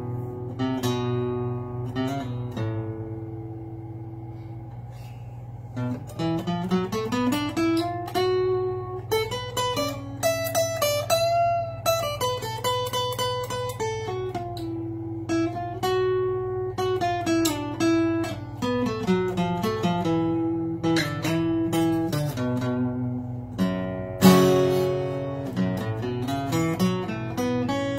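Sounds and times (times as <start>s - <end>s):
fingerstyle blues guitar: 0.0s - 27.9s
steady low hum: 0.0s - 27.9s.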